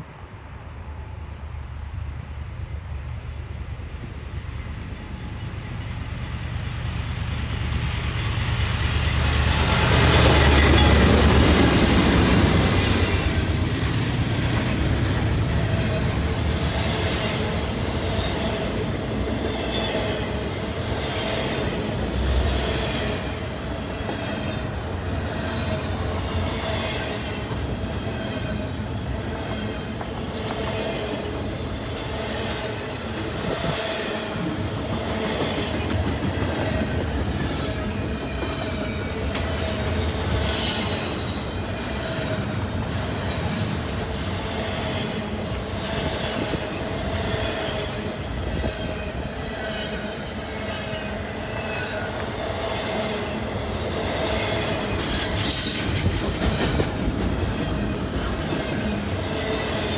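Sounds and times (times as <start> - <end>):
diesel locomotive engine rumble: 0.0 - 52.6
train wheels clattering on rails: 5.2 - 59.9.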